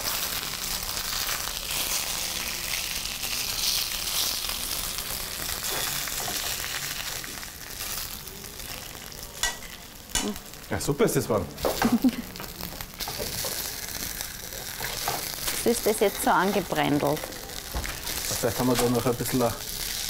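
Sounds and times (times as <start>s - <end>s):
slices sizzling in a pan: 0.0s - 20.0s.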